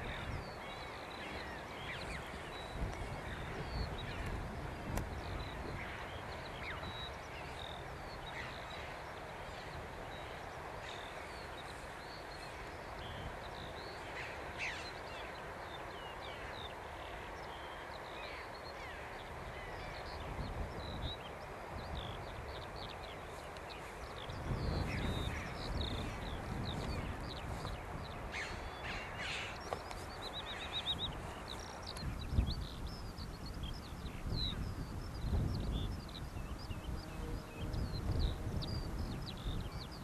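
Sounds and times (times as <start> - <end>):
birds calling: 0.0 - 40.0
wind rumbling on microphone: 0.0 - 40.0.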